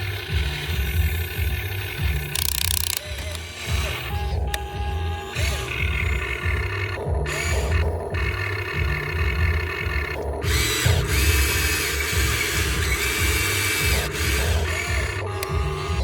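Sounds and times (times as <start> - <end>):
music with steady bass beat: 0.0 - 16.0
small electric motors whining: 0.0 - 16.0.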